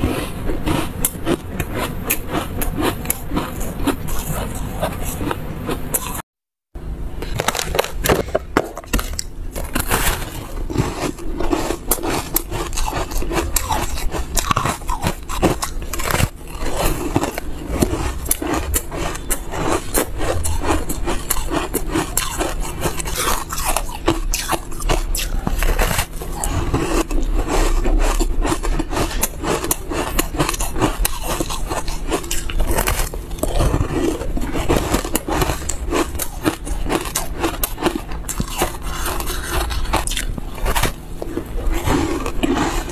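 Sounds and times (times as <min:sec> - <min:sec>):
ice crunching and chewing: 0:00.0 - 0:06.2, 0:07.2 - 0:42.9.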